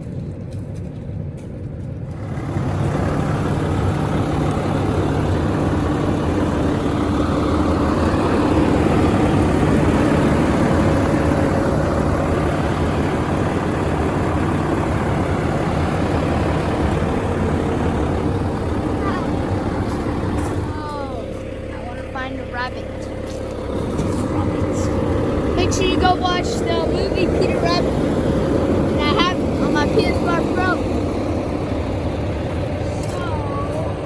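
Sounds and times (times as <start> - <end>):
diesel truck engine humming: 0.0 - 34.0.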